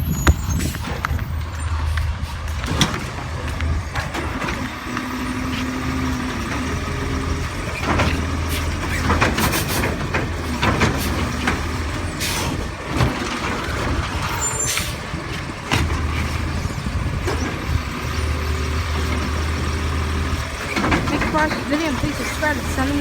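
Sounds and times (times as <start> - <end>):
clanks and bangs: 0.0 - 16.5, 20.4 - 23.0
garbage truck diesel engine running: 0.0 - 23.0.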